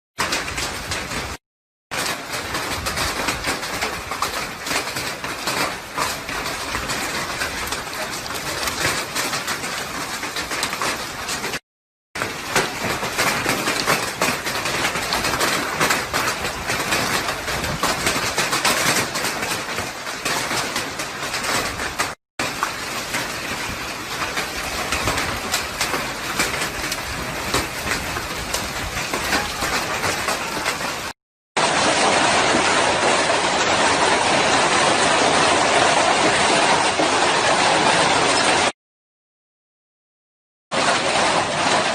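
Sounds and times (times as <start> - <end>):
heavy rain falling: 0.2 - 11.6, 12.2 - 38.8, 40.7 - 41.9.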